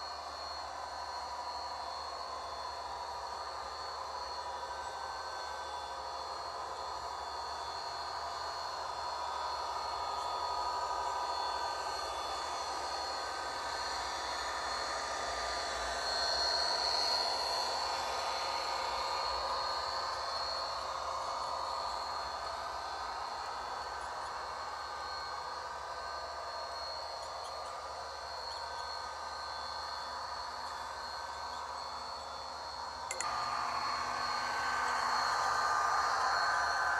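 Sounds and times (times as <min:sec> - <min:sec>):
model train whining hum: 0:00.0 - 0:36.9.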